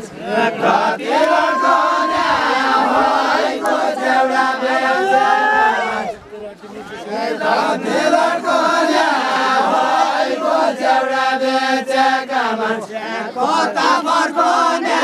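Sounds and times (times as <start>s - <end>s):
men singing in unison: 0.0s - 6.0s, 7.1s - 15.0s.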